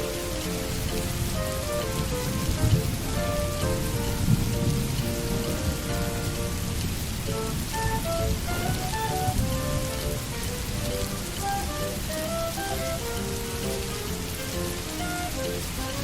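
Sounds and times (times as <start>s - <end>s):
low thumps: 0.0s - 16.0s
soft melodic background music: 0.0s - 16.0s
steady rain falling: 0.0s - 16.0s.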